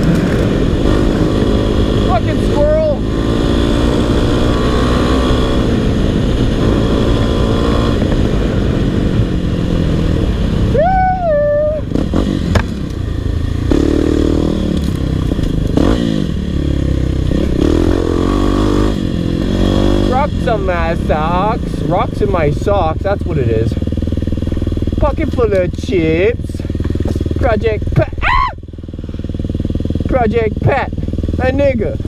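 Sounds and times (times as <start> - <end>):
dirt bike engine revving: 0.0 - 10.8, 11.8 - 32.0.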